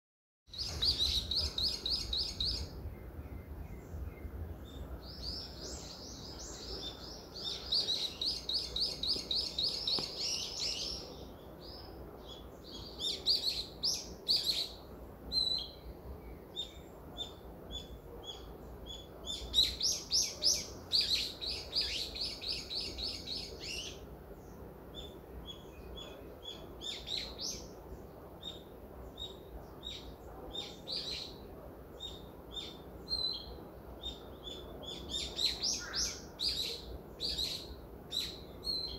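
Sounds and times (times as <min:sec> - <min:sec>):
songbirds trilling and chirping: 0:00.5 - 0:38.9.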